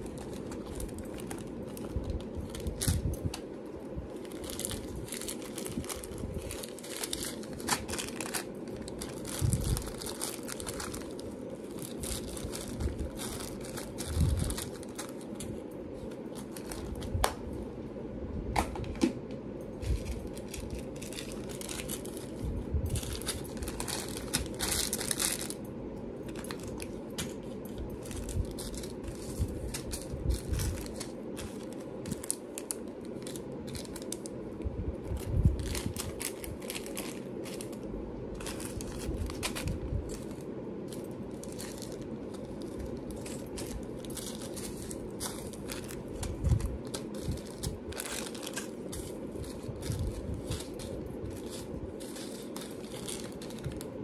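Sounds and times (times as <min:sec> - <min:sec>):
packaging crinkling and rustling: 0:00.0 - 0:17.6, 0:19.7 - 0:54.0
low background hum: 0:00.0 - 0:54.0.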